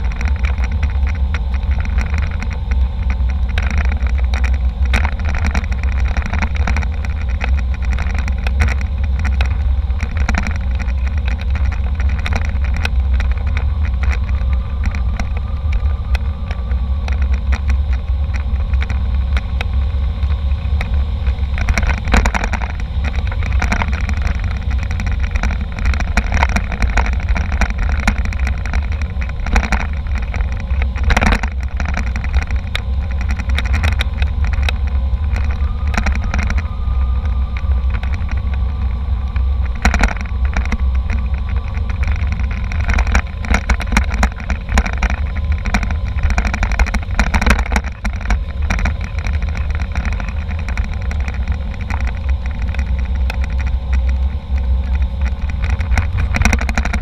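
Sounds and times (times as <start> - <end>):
airliner engine rumble: 0.0 - 57.0.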